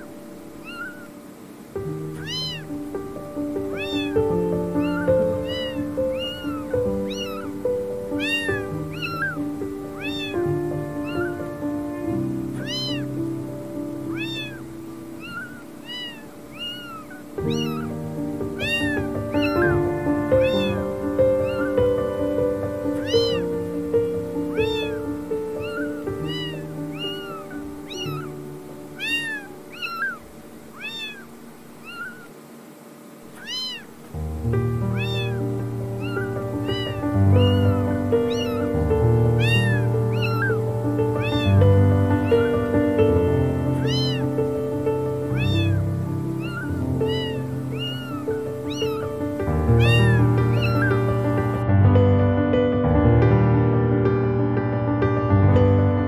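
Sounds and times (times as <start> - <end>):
kittens mewing: 0.0 - 32.6, 33.2 - 51.6.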